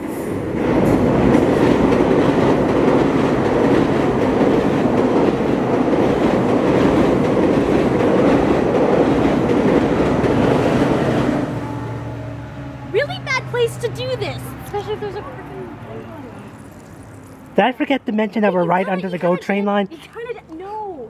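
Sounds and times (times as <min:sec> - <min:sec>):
train crossing bridge overhead: 0:00.0 - 0:19.6.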